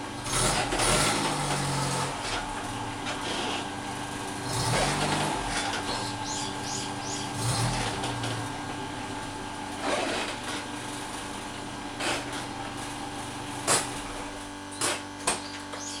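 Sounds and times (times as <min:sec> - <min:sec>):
van engine running: 0:00.0 - 0:16.0.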